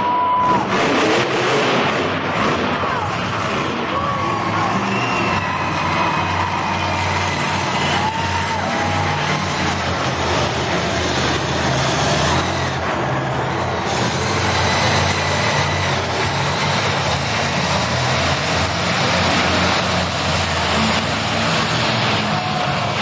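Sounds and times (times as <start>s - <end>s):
monster truck engine running: 0.4s - 23.0s.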